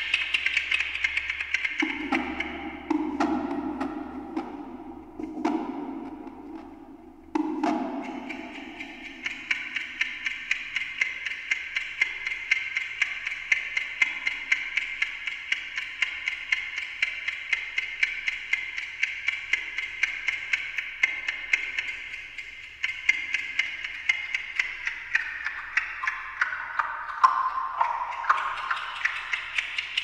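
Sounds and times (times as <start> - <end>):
clock ticking with delay echoes: 0.0 - 30.0.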